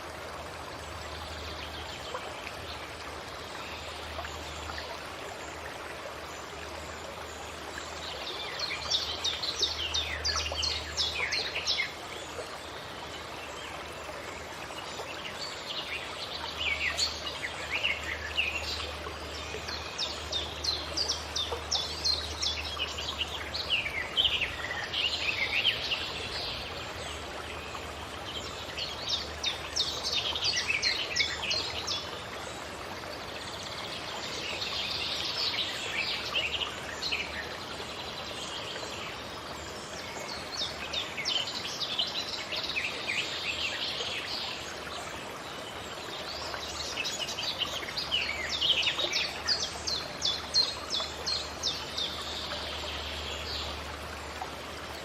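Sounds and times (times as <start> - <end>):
running water: 0.0 - 55.0
songbirds singing: 0.9 - 55.0.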